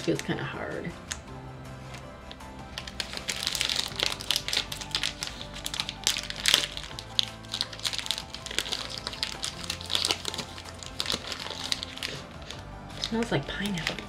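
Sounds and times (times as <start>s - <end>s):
background music: 0.0s - 14.0s
wrapper crackling: 2.7s - 14.0s.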